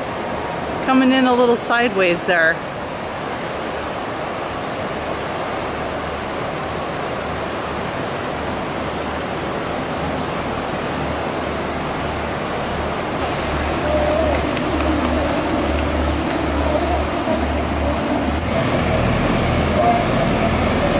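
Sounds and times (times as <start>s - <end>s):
whitewater rapids rushing: 0.0s - 20.9s.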